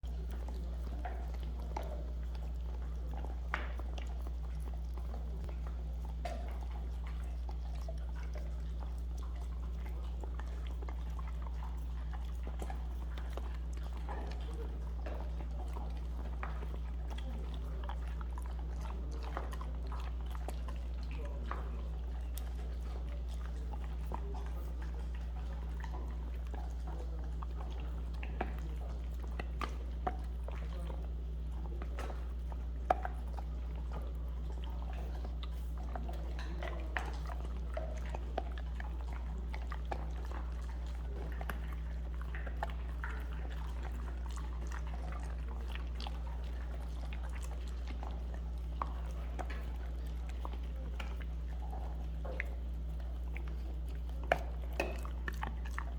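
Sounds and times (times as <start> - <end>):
puppy chewing a treat: 0.0 - 55.9
steady low hum: 0.0 - 55.9.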